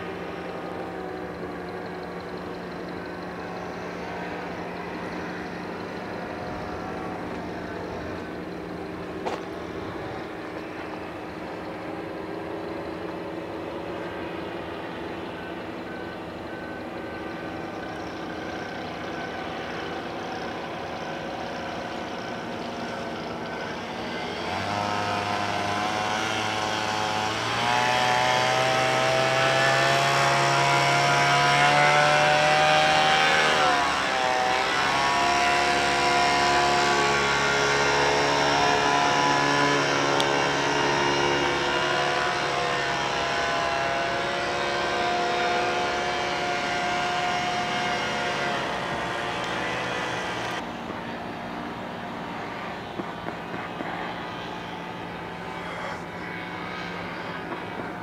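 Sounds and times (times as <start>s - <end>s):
paramotor engine droning overhead: 0.0s - 58.0s.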